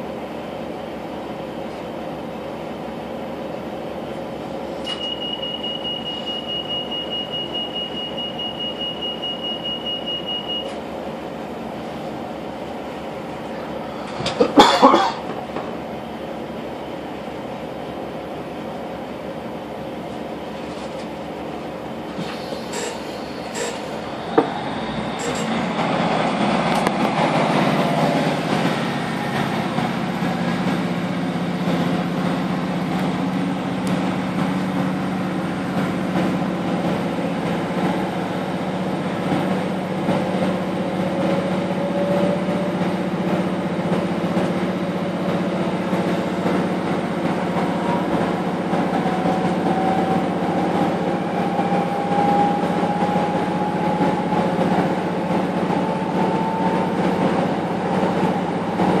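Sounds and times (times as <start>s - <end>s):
diesel train engine drone: 0.0s - 59.0s
rising train whine: 0.0s - 59.0s.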